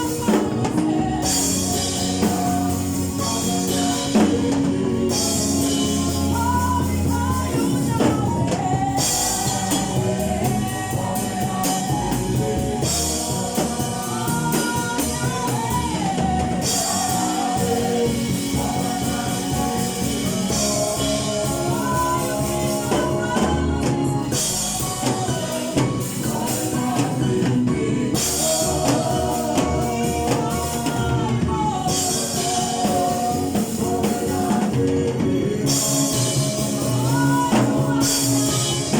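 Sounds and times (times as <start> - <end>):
choir singing in unison: 0.0 - 38.9
drums and cymbals beat: 0.0 - 38.9.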